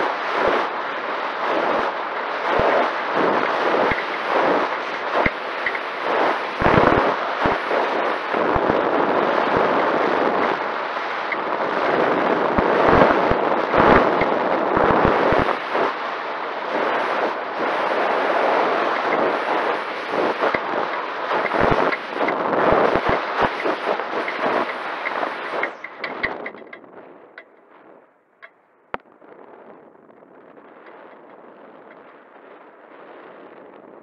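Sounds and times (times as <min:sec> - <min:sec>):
wind rushing on microphone: 0:00.0 - 0:34.0.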